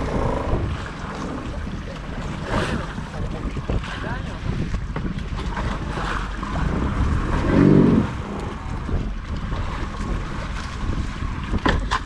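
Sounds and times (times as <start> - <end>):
water washing against boat: 0.0 - 12.0
wind buffeting microphone: 0.0 - 12.0.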